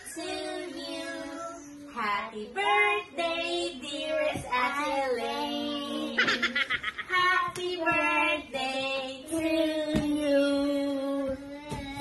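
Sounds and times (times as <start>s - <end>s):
girl singing in a high voice: 0.0s - 12.0s.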